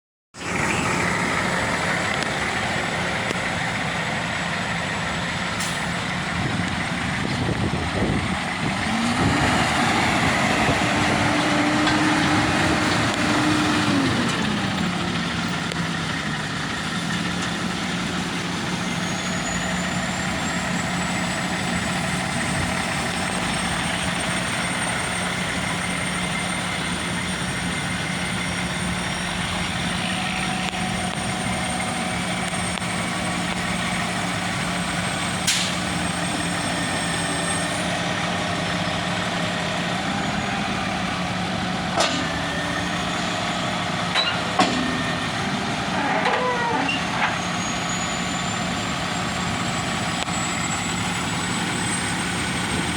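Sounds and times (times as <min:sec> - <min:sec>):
truck engine idling and revving: 0:00.4 - 0:52.9.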